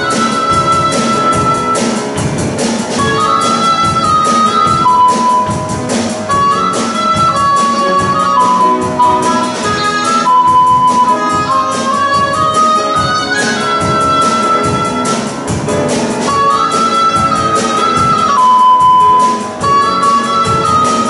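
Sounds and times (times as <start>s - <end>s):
instrumental ensemble playing: 0.0s - 21.0s.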